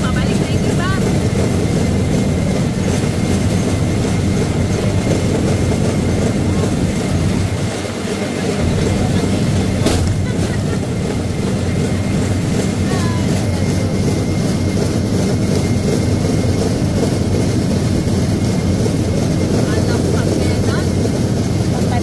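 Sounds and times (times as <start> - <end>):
steel wheels rumbling on rails: 0.0 - 22.0.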